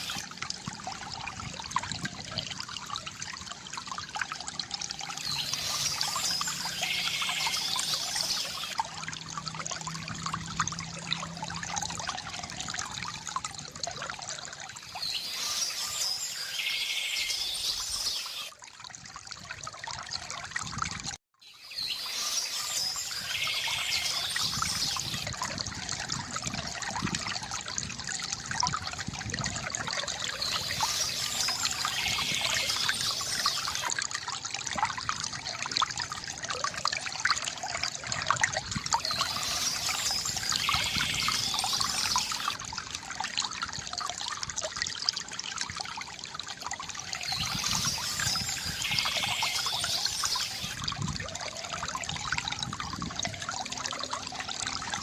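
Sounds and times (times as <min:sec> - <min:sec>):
water trickling from bamboo fountain: 0:00.0 - 0:55.0.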